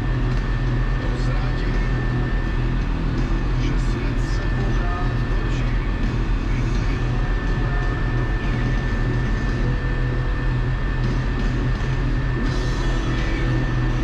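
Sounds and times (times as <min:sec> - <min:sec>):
thin high whine: 0:00.0 - 0:14.0
tractor diesel engine running: 0:00.0 - 0:14.0.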